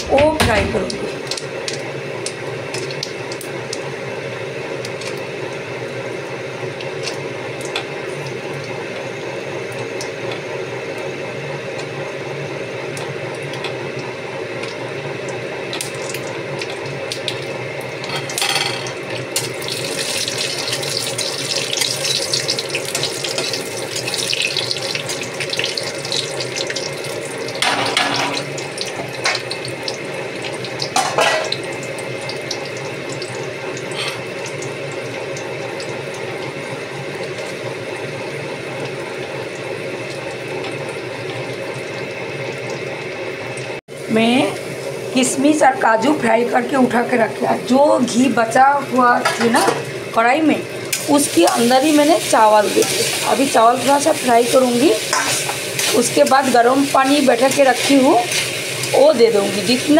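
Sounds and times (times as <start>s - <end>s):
spices sizzling in hot ghee: 1.0s - 59.9s.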